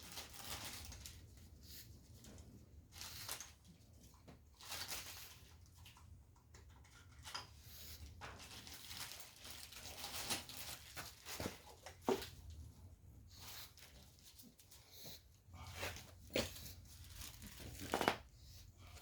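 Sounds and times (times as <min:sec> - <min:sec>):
rustling and scraping: 0:00.0 - 0:19.0.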